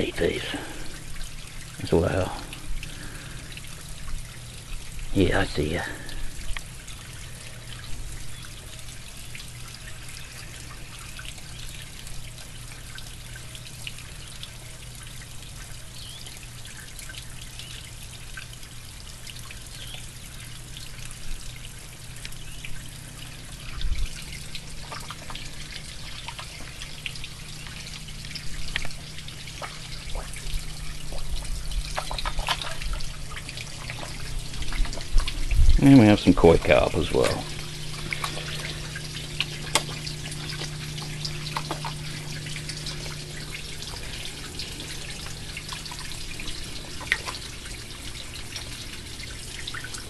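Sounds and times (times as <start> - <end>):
low steady hum: 0.0 - 50.0
water trickling and dripping: 0.0 - 50.0.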